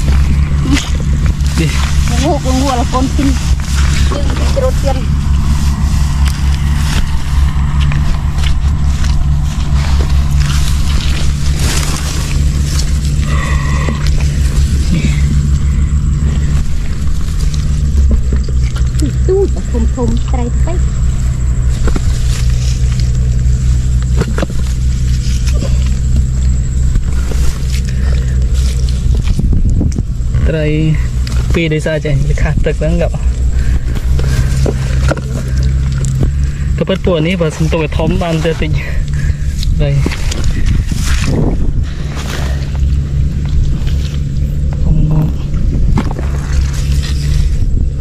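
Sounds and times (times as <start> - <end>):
engine running at low pitch: 0.0 - 48.0
rustling and scraping: 0.0 - 48.0.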